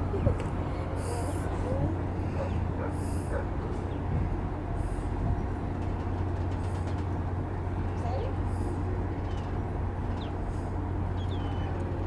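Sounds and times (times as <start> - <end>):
ship engines humming: 0.0 - 12.0.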